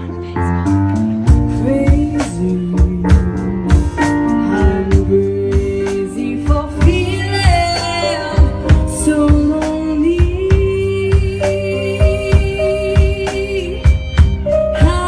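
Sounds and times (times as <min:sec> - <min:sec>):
drum kit steady beat: 0:00.0 - 0:15.0.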